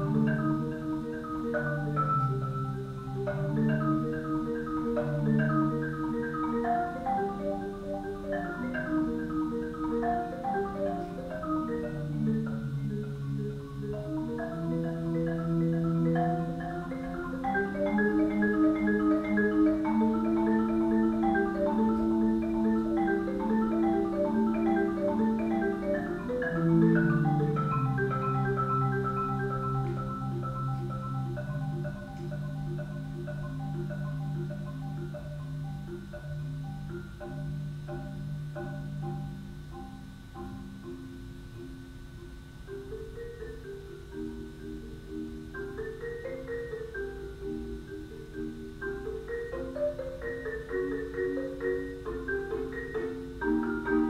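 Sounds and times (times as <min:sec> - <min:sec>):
solo marimba: 0:00.0 - 0:54.0.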